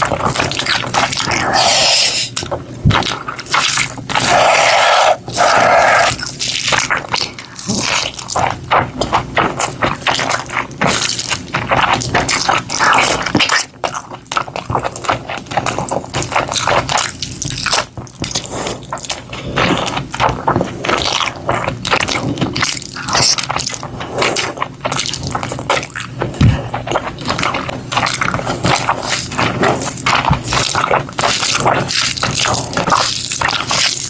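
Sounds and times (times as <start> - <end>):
wet chewing and smacking: 0.0 - 34.0.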